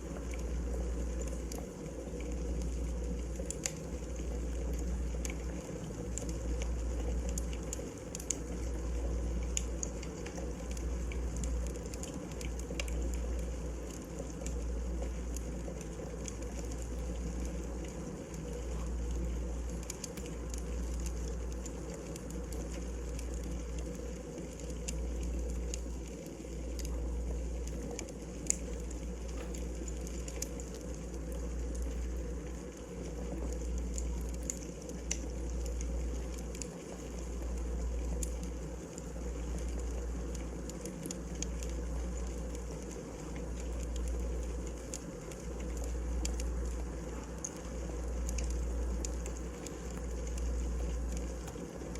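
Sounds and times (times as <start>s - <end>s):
fire crackling and popping: 0.0s - 51.9s
steady fire hiss: 0.0s - 51.9s.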